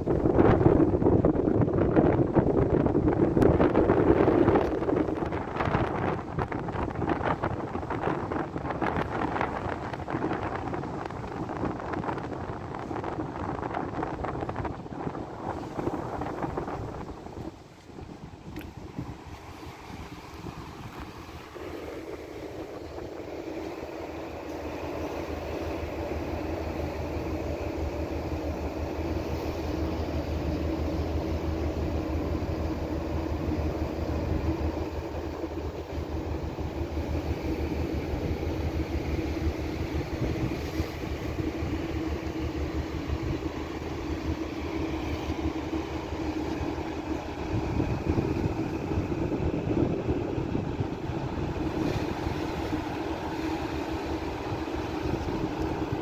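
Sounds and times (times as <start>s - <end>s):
ship engine hum: 0.0s - 56.0s
water rushing along hull: 0.0s - 56.0s.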